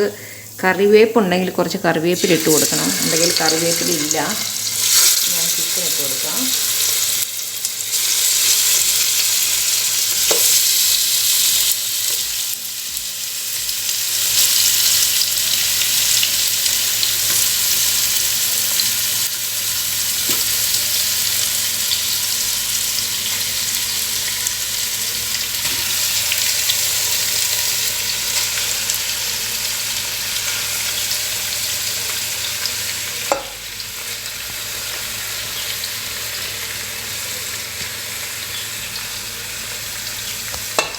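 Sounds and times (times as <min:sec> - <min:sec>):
chicken sizzling in oil: 0:02.1 - 0:40.9.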